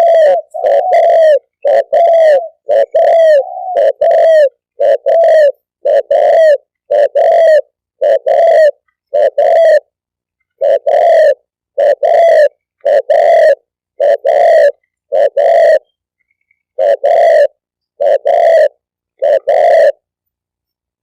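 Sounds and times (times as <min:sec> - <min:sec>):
dove cooing: 0:00.0 - 0:15.9, 0:16.8 - 0:20.1.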